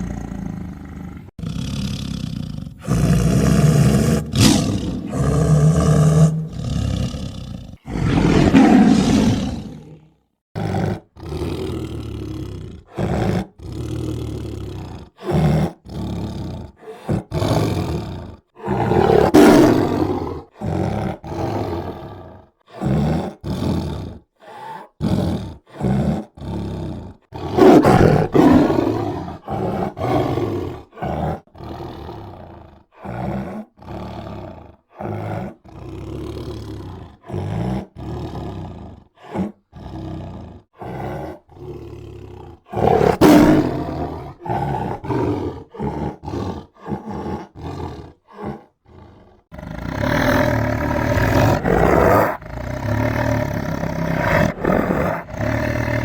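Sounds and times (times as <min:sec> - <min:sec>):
tiger roaring and growling: 0:00.0 - 0:56.0
tiger snarls: 0:00.0 - 0:56.0.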